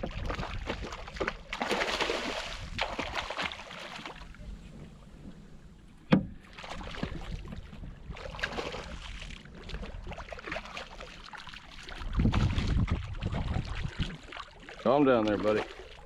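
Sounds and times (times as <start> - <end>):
fish thrashing and splashing: 0.0 - 4.4, 6.5 - 16.0
water slapping around a kayak: 0.0 - 16.0.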